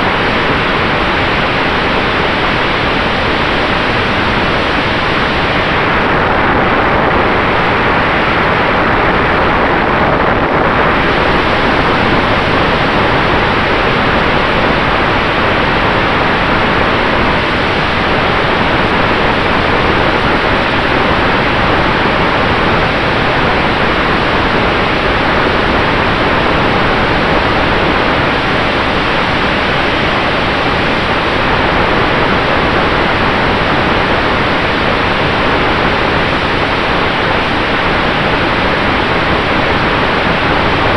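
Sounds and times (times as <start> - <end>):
propeller and airflow rush: 0.0 - 40.9.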